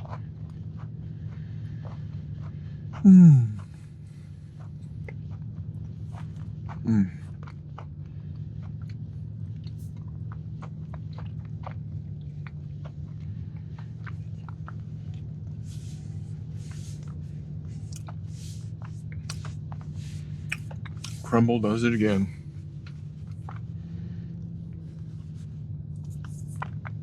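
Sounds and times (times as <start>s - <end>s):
close chewing with mouth clicks: 0.0s - 27.0s
steady low hum: 0.0s - 27.0s.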